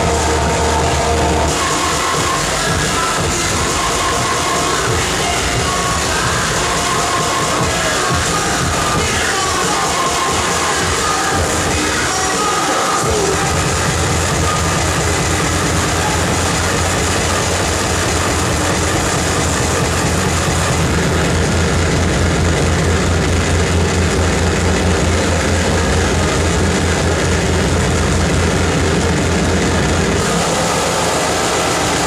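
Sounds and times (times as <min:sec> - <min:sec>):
stuttering low rumble: 0:00.0 - 0:09.2, 0:13.0 - 0:32.0
distorted harsh noise: 0:00.0 - 0:32.0.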